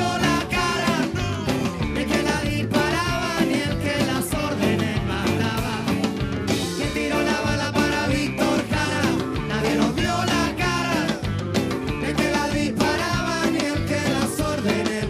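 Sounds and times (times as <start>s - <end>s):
person singing: 0.0s - 11.3s, 12.0s - 15.0s
band music with steady beat: 0.0s - 15.0s.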